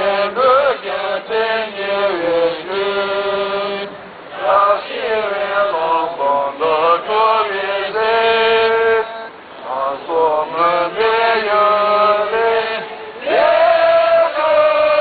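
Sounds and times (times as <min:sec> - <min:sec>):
person chanting a mantra: 0:00.0 - 0:15.0.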